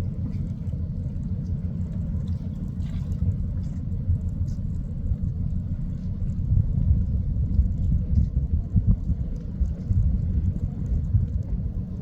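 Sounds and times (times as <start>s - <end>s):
ship engine low rumble: 0.0s - 12.0s.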